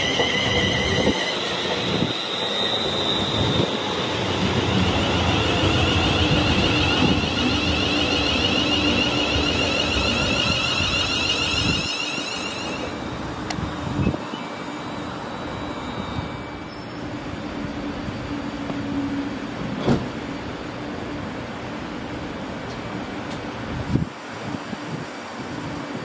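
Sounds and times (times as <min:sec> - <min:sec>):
electric train whine: 0:00.0 - 0:26.0
train rumbling on rails: 0:00.0 - 0:26.0.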